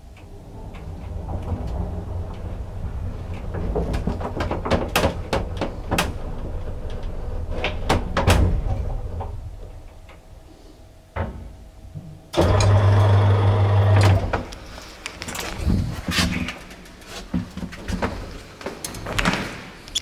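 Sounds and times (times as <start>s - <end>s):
electric hum with rattling: 0.0s - 20.0s.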